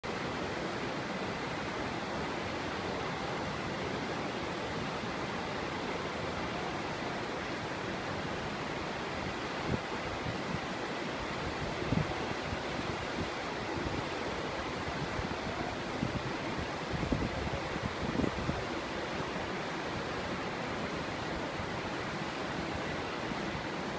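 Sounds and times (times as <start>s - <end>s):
river rapids rushing: 0.0s - 23.9s.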